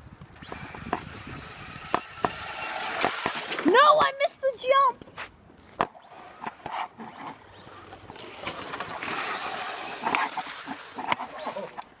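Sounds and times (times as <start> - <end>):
rc car tyre and motor noise: 0.0 - 4.0, 5.8 - 12.0.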